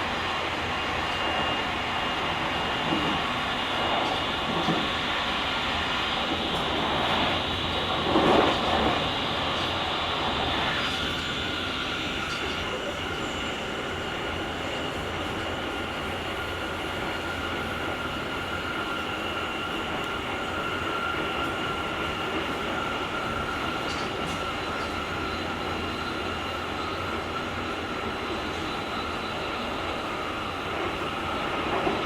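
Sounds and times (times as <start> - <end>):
train rolling on rails: 0.0 - 32.0.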